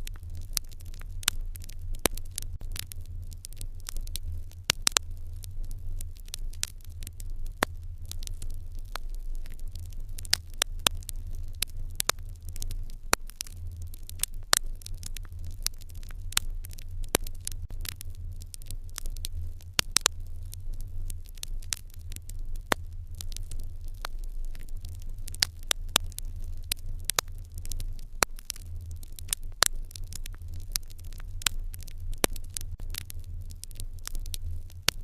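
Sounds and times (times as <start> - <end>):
low steady hum: 0.0 - 35.0
wood fire crackling: 0.0 - 35.0.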